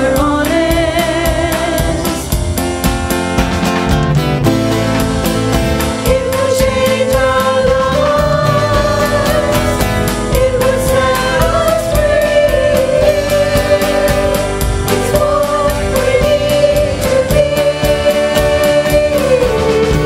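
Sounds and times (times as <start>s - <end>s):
women singing: 0.0s - 2.2s, 6.0s - 20.0s
acoustic guitar: 0.0s - 20.0s
steady beat: 2.0s - 20.0s.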